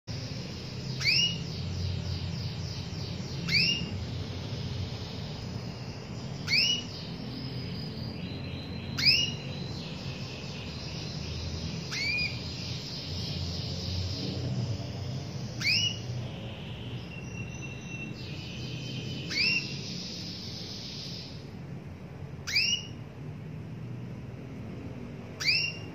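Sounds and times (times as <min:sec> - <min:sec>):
faint twittering trills: 0:00.1 - 0:25.9
steady low hum: 0:00.1 - 0:25.9
canary whistled call notes: 0:00.7 - 0:21.5, 0:22.4 - 0:23.0, 0:25.4 - 0:25.9.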